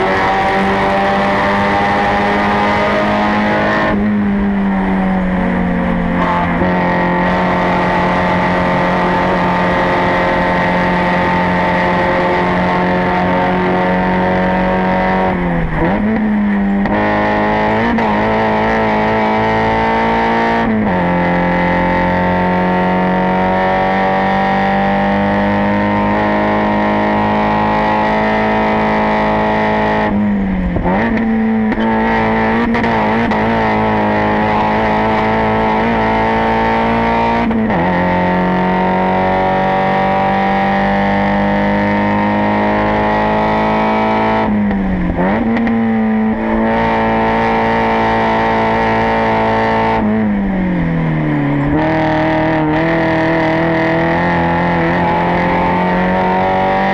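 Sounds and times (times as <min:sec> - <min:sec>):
race car engine at high revs: 0:00.0 - 0:56.9.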